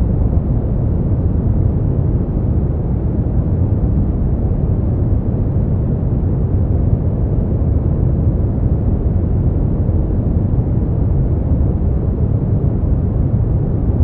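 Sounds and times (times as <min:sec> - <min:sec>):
deep rumbling white noise: 0:00.0 - 0:14.0.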